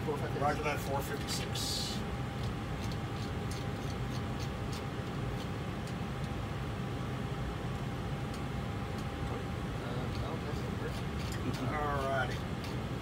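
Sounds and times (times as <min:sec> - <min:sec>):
low engine and airflow rumble: 0:00.0 - 0:13.0.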